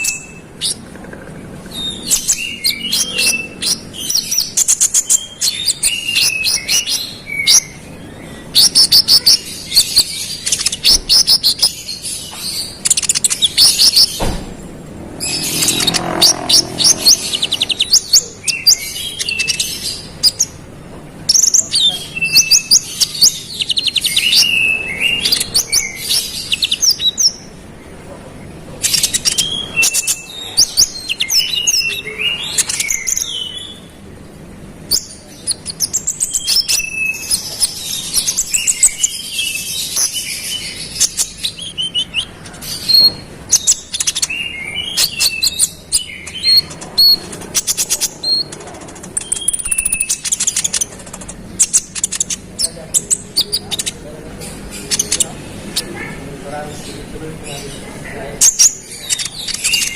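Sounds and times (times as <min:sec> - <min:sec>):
bird trilling and chirping: 0:00.0 - 0:27.7, 0:28.8 - 0:59.9.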